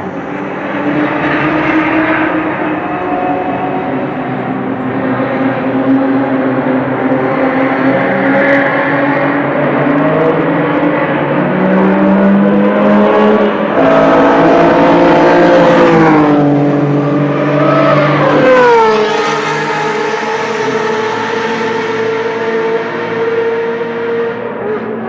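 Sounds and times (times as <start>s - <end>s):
cars passing by: 0.0s - 25.0s
sports car engines racing: 0.0s - 25.0s.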